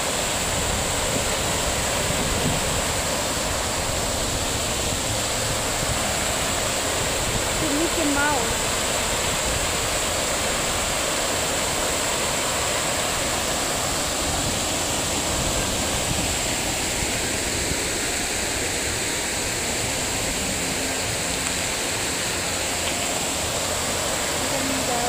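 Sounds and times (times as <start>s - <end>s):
fountain water splashing: 0.0s - 25.0s.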